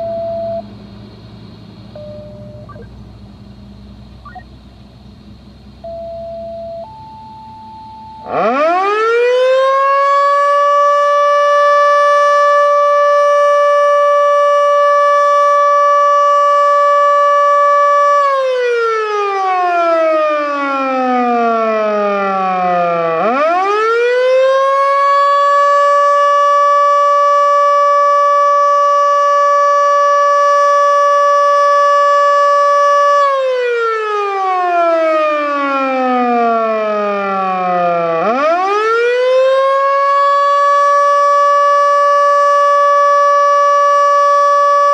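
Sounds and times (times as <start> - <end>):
warning siren wailing: 1.9 - 3.0, 4.2 - 4.6, 6.6 - 44.9.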